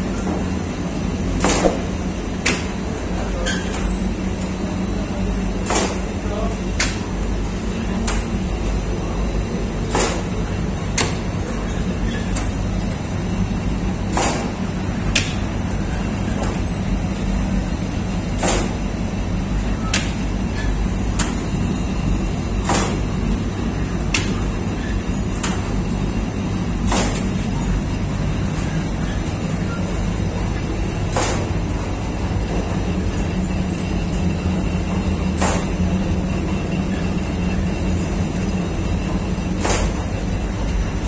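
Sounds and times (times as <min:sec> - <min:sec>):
machinery humming: 0:00.0 - 0:41.0.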